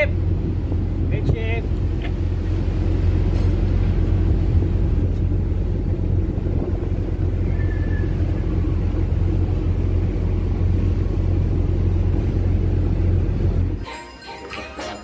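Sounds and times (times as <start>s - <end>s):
wind buffeting the microphone: 0.2s - 12.4s.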